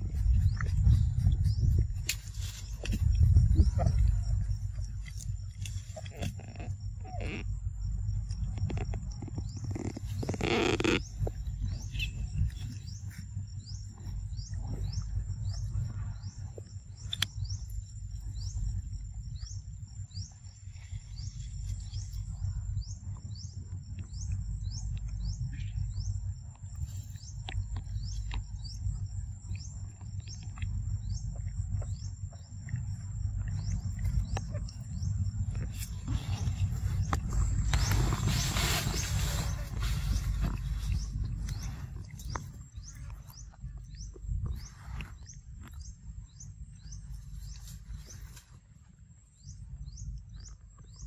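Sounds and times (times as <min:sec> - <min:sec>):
high insect whine: 0:00.0 - 0:43.8
low rumble on microphone: 0:00.0 - 0:51.0.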